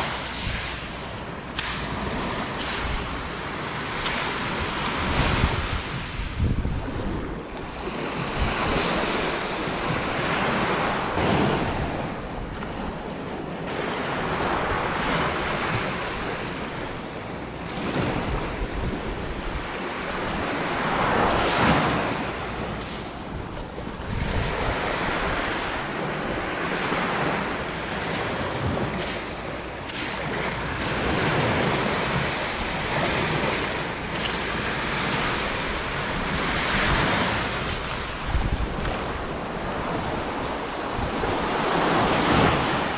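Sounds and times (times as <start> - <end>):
sea waves washing onto beach: 0.0 - 42.9
wind buffeting microphone: 0.0 - 42.9.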